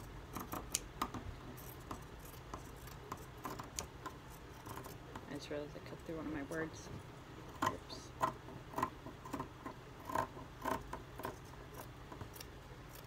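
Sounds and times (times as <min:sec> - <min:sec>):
scissors snipping fabric: 0:00.0 - 0:05.4, 0:07.5 - 0:13.0.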